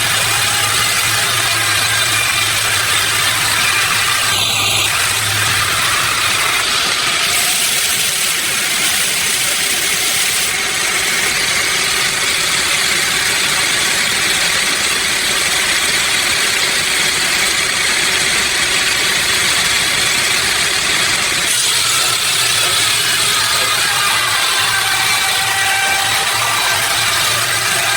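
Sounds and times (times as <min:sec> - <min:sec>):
sawmill machinery running: 0:00.0 - 0:27.9.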